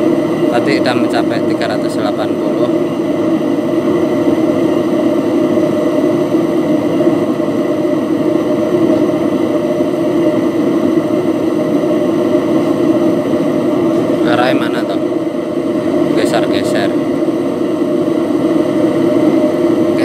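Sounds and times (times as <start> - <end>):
stove burner roaring: 0.0 - 20.0.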